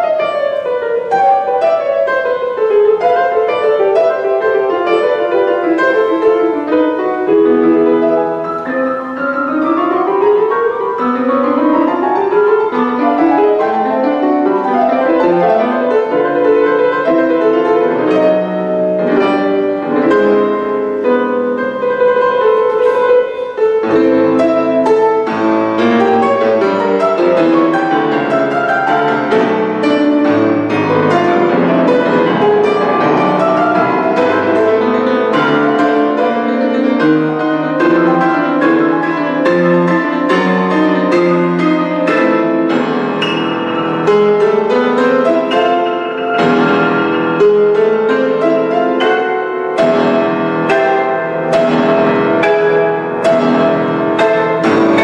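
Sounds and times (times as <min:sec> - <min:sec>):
fast solo piano piece: 0:00.0 - 0:55.0.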